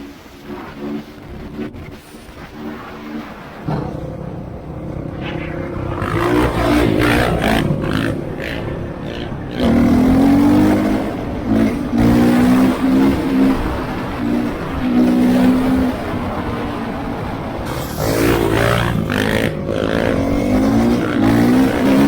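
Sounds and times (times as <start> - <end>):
dirt bike engine revving: 0.4 - 22.0.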